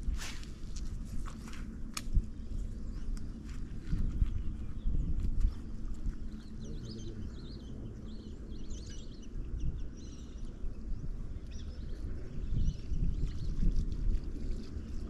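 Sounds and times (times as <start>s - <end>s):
wind rumble on microphone: 0.0s - 15.0s
small birds chirping: 2.7s - 15.0s.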